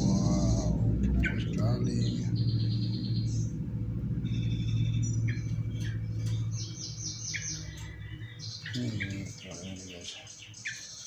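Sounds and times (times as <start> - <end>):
steady low hum: 0.0 - 11.0
young bulbuls chirping: 0.0 - 11.0.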